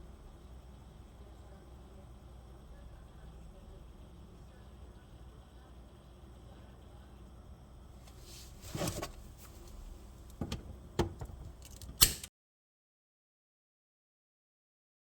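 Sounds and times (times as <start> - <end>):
low steady hum: 0.0 - 12.3.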